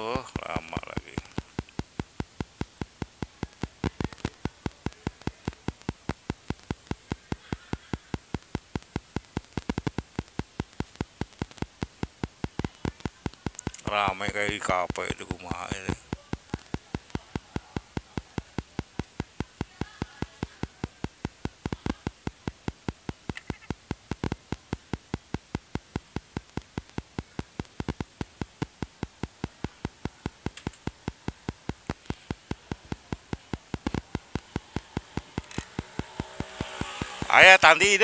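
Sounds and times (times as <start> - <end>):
faint low background noise: 0.0 - 38.0
rapid sharp clicking: 0.0 - 38.0.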